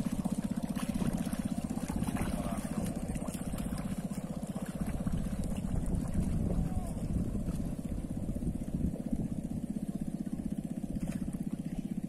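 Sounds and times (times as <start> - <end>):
small boat engine running: 0.0 - 12.0.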